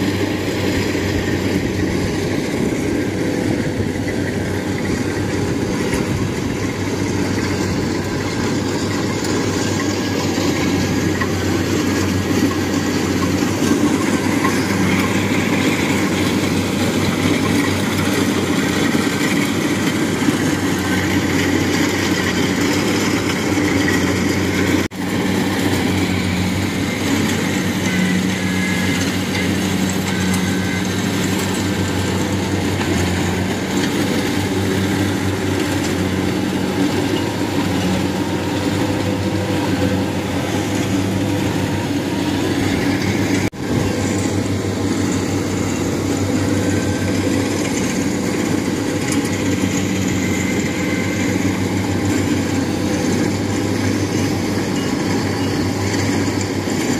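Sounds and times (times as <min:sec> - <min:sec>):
combine harvester diesel engine drone: 0:00.0 - 0:56.9.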